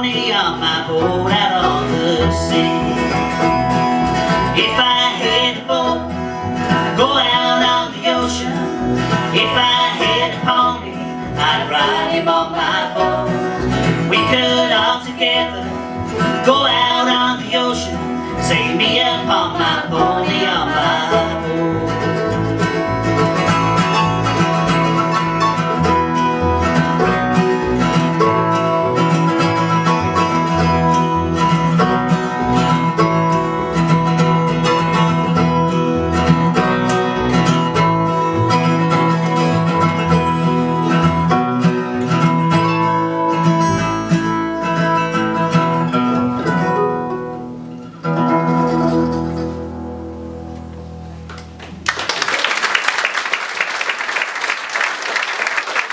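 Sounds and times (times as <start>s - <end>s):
upright bass: 0.0s - 52.3s
acoustic guitars: 0.0s - 55.9s.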